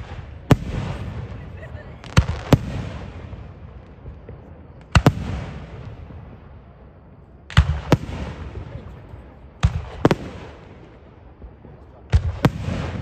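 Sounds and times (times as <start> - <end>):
fireworks bursting with bangs: 0.0 - 13.0.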